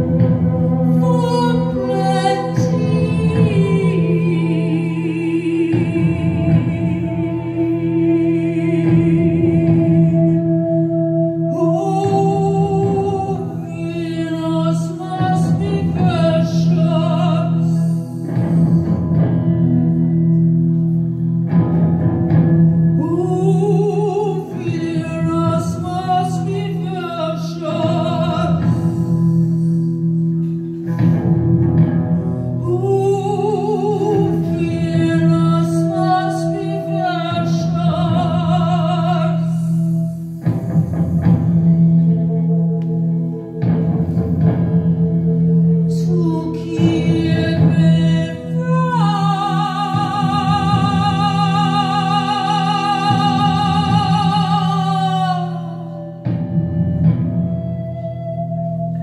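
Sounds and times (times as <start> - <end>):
woman singing with vibrato: 0.0 - 20.1, 22.7 - 31.2, 31.9 - 59.0.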